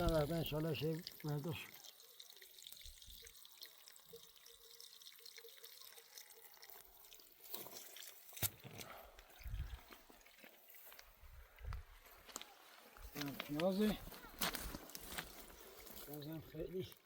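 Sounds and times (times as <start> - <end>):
trickle of water: 0.0 - 17.0.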